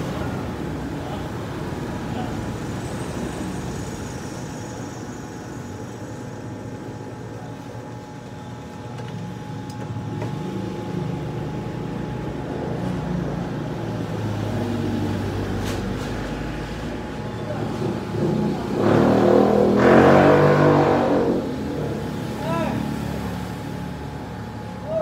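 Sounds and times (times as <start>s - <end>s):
road traffic noise: 0.0s - 25.0s
vehicle engine: 0.0s - 25.0s.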